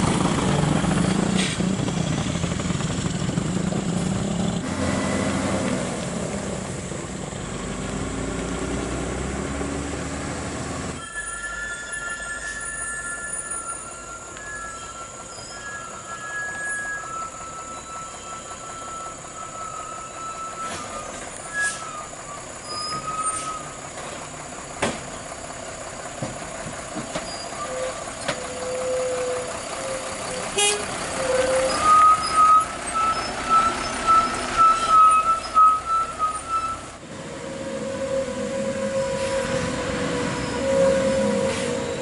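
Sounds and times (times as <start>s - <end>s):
diesel truck engine passing: 0.0s - 11.0s, 13.0s - 42.0s.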